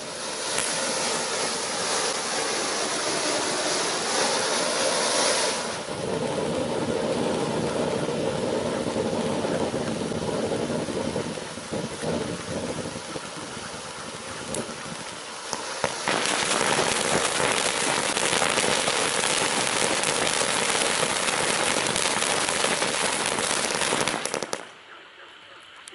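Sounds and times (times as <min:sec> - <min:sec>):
firework fountain hissing: 0:00.0 - 0:24.9
dense fine crackling: 0:00.0 - 0:25.9.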